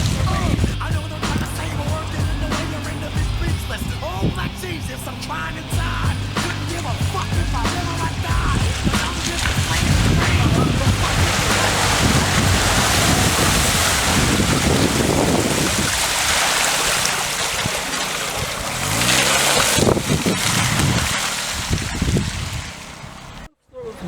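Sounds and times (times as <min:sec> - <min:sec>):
wind on microphone: 0:00.0 - 0:23.5
car engine running: 0:00.0 - 0:24.0
mud splashing: 0:00.0 - 0:24.0.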